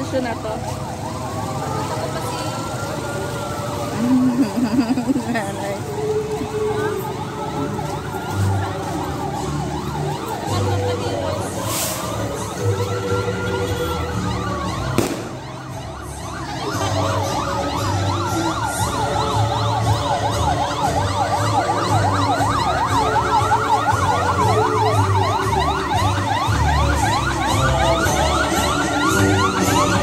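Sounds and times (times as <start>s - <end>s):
siren wailing: 0.0s - 30.0s
siren yelping: 0.0s - 30.0s.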